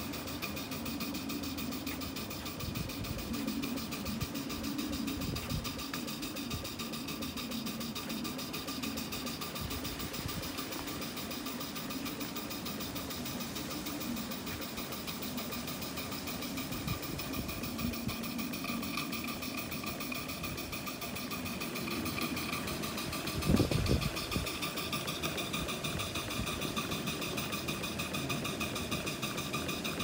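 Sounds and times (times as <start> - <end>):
steam engine exhaust beat: 0.0 - 30.0
steam hissing: 0.0 - 30.0.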